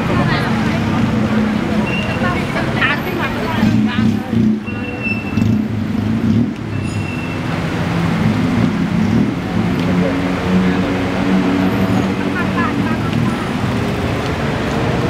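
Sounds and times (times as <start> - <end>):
road traffic engine drone: 0.0 - 15.0.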